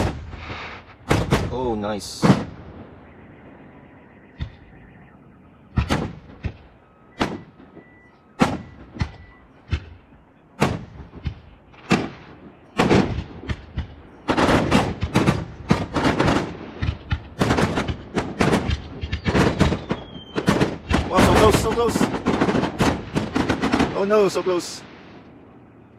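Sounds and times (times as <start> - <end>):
firework shells booming: 0.0 - 25.4.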